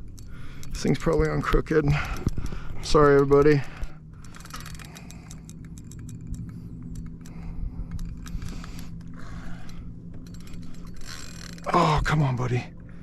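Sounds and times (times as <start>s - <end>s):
small clicks and rattles: 0.0s - 12.4s
steady low hum: 0.0s - 13.0s.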